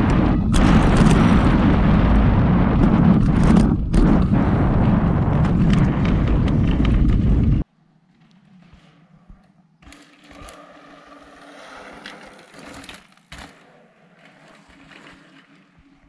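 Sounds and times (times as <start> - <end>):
bike tyres rolling on dirt: 0.0 - 16.0.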